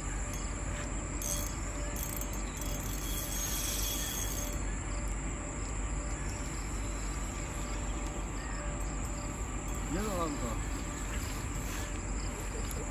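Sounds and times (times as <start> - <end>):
insects chirring: 0.0 - 12.9
low steady rumble: 0.0 - 12.9.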